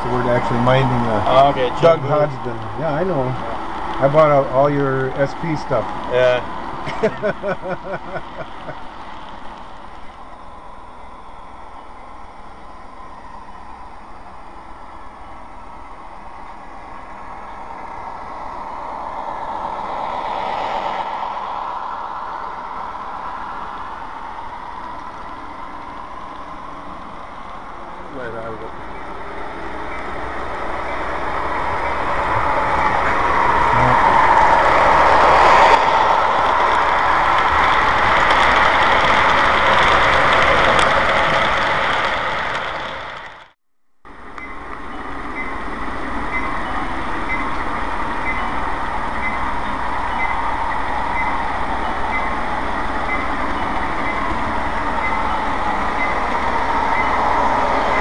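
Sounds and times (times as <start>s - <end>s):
model train rolling on track: 0.0s - 58.0s.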